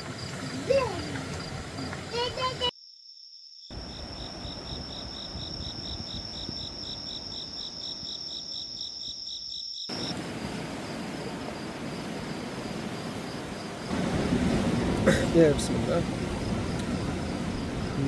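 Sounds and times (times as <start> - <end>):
insects trilling and chirping: 0.0 - 18.0.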